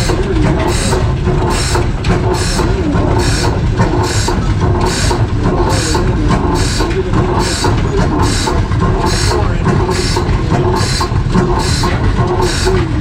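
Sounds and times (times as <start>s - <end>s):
old engine puffing: 0.0s - 13.0s.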